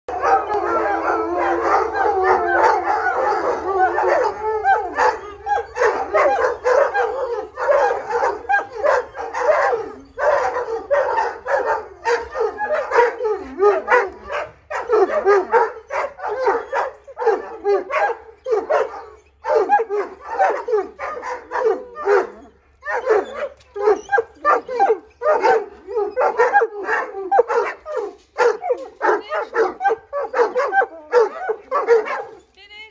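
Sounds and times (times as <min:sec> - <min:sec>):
dogs howling: 0:00.1 - 0:32.4
dogs yipping and barking: 0:00.1 - 0:32.6.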